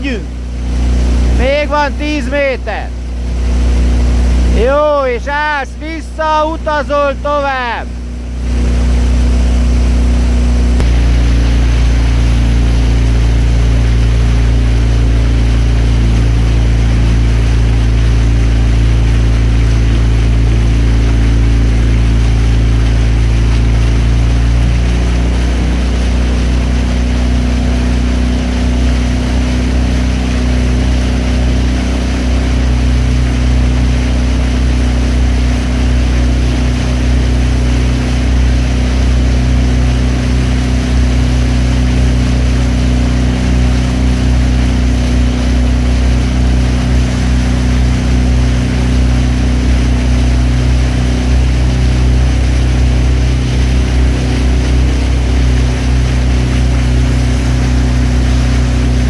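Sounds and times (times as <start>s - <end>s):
motorboat engine droning: 0.0s - 59.0s.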